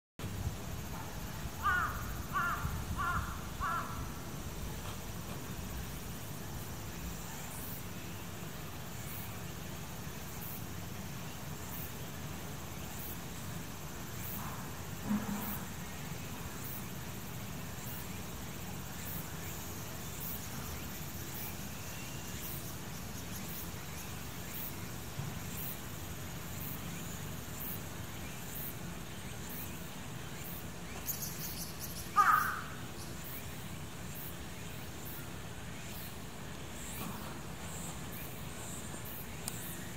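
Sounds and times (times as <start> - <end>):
outdoor background hum: 0.2 - 39.9.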